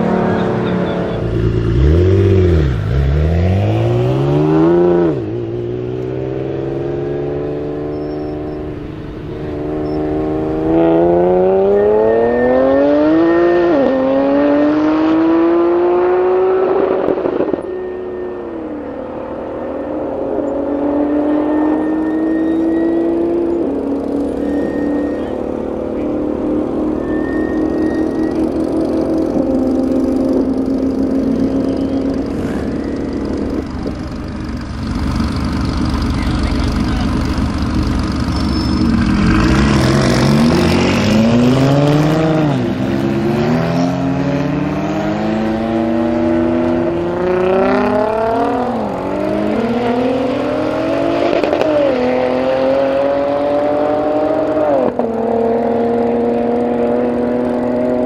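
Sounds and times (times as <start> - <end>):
cars accelerating hard: 0.0 - 58.0
engine pitch shifting gears: 0.0 - 58.0.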